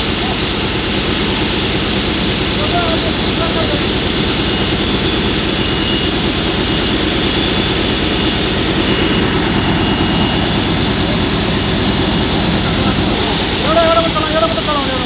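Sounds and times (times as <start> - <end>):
fire truck diesel engine running: 0.0 - 15.0.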